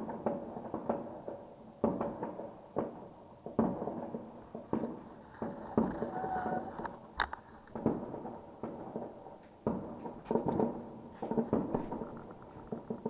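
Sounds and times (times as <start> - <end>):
fireworks and firecrackers banging: 0.0 - 13.0.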